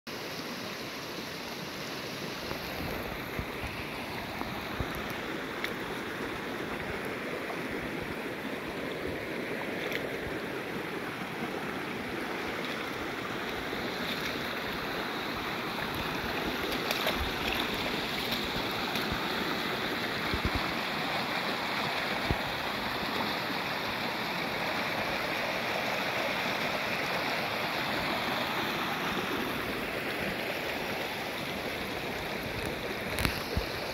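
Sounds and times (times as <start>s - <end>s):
creek babbling over stones: 0.1s - 33.9s.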